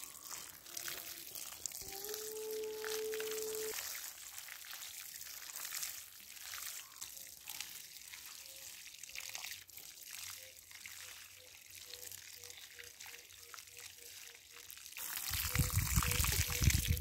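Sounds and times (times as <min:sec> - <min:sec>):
water pouring onto soil: 0:00.0 - 0:17.0.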